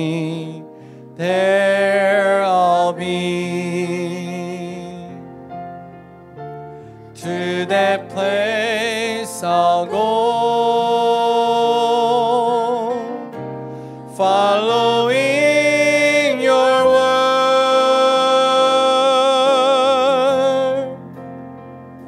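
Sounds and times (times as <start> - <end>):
man singing into microphone: 0.0 - 5.3, 7.2 - 21.2
instrumental accompaniment: 0.0 - 22.0.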